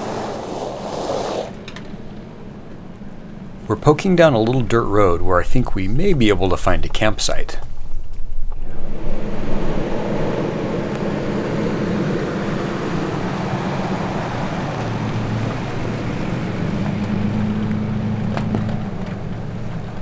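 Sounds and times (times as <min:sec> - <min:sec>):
pickup engine humming: 0:00.0 - 0:04.9, 0:08.0 - 0:20.0
tyre noise on dirt road: 0:00.0 - 0:20.0.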